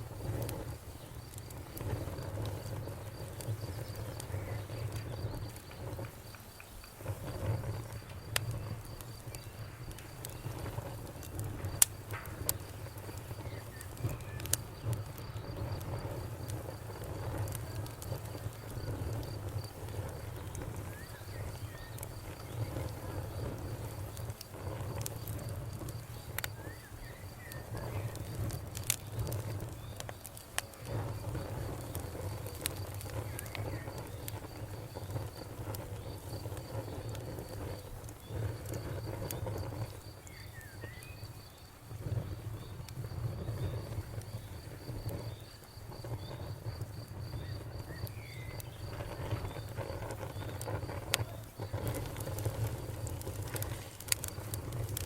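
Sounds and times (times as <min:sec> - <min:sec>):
campfire crackling and popping: 0:00.0 - 0:55.0
cricket chirping: 0:00.1 - 0:55.0.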